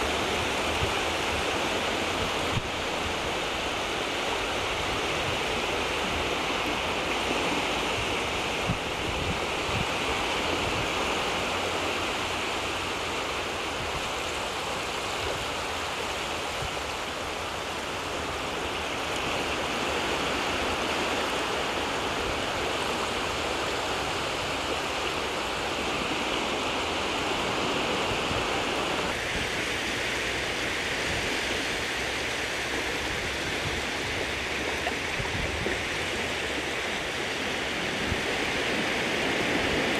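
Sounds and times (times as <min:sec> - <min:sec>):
shallow sea water rushing: 0:00.0 - 0:39.9.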